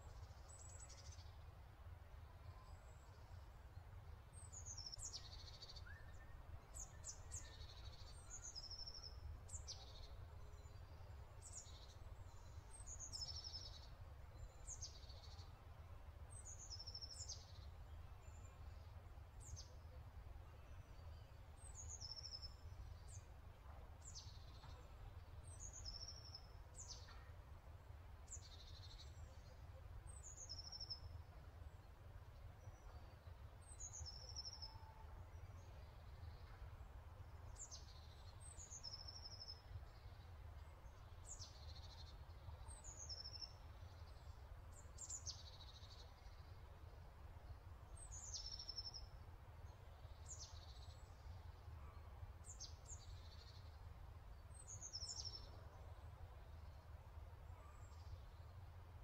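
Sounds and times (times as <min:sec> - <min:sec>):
faint birdsong chirps: 0:00.0 - 0:59.0.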